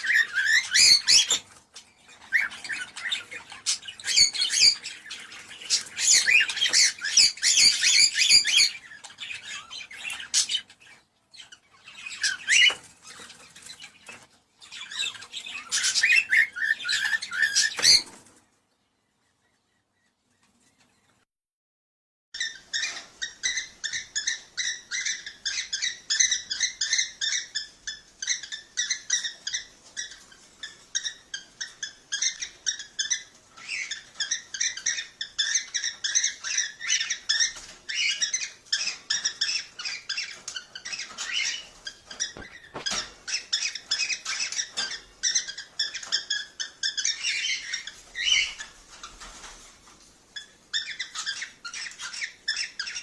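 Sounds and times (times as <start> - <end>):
cockatiels chirping: 0.0 - 18.4, 22.4 - 53.0.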